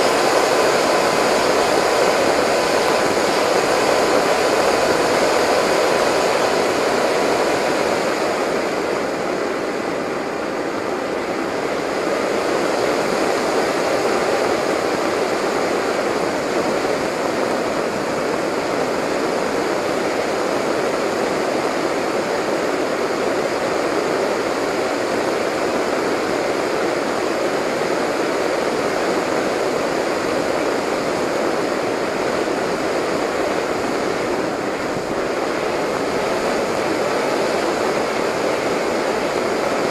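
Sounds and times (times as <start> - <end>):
airflow rushing over camera: 0.0 - 39.9.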